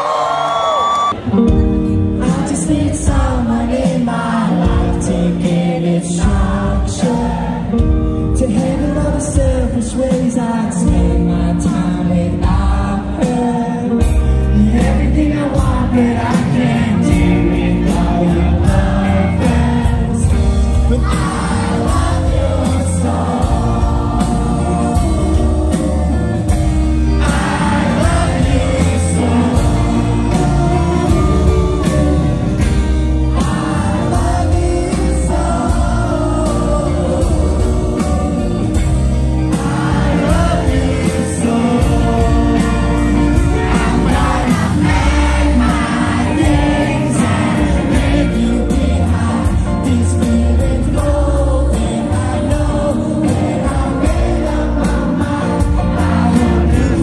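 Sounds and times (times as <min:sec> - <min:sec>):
electric guitars: 0:00.9 - 0:57.0
bass and drums: 0:01.2 - 0:57.0
man singing: 0:02.0 - 0:57.0.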